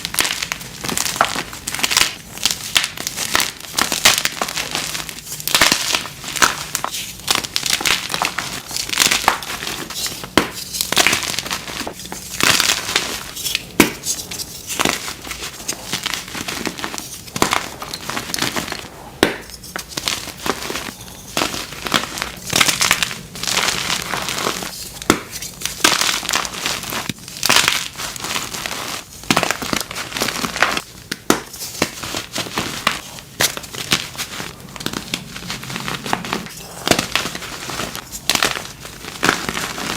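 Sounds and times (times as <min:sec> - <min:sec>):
chalk being crushed by hand: 0:00.0 - 0:39.9.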